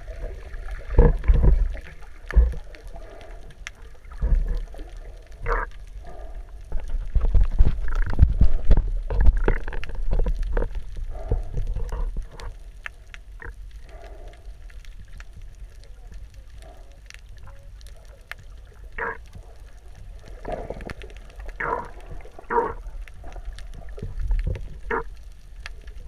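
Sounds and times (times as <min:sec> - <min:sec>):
water gurgling: 0:00.0 - 0:26.0
water surging underwater: 0:00.0 - 0:26.0.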